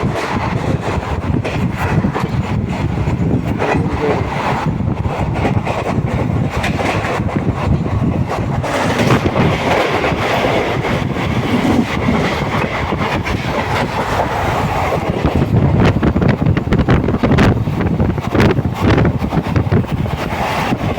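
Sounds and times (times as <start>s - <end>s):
train rumbling on track: 0.0s - 20.9s
wheels clattering over rails: 0.0s - 20.9s.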